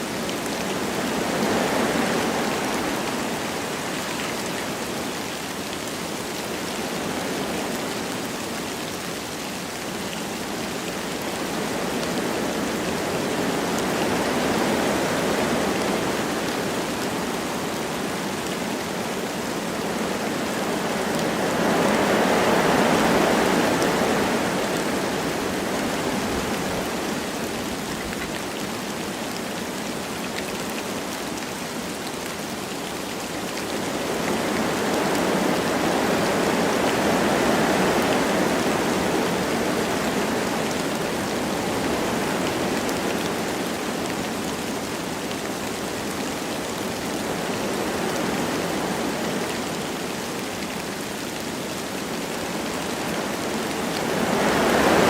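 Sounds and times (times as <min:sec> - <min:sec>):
wind through trees: 0:00.0 - 0:55.0.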